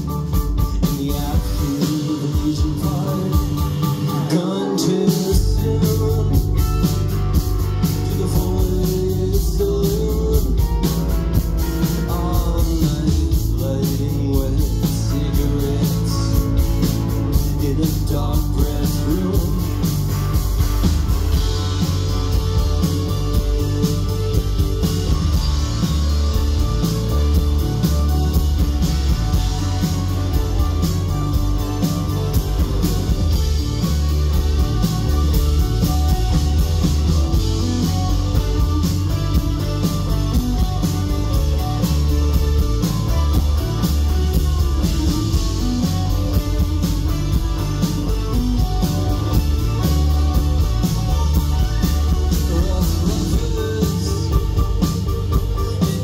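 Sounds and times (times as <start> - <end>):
rock band playing instrumental: 0.0 - 56.0.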